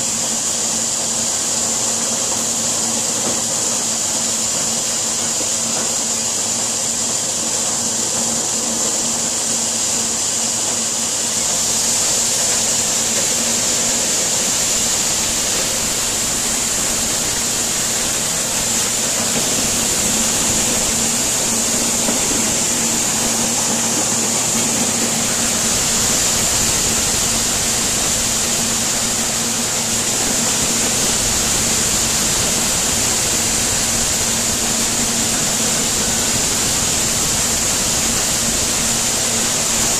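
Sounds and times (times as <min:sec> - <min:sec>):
corn sheller hum: 0:00.0 - 0:39.9
even hiss: 0:00.0 - 0:39.9.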